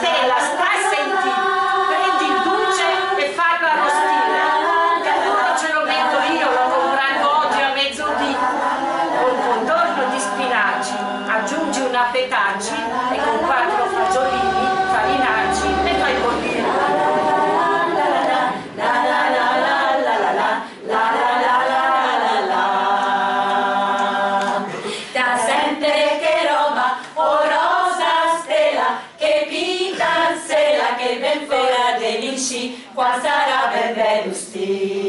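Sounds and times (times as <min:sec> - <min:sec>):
women singing unaccompanied: 0:00.0 - 0:35.0.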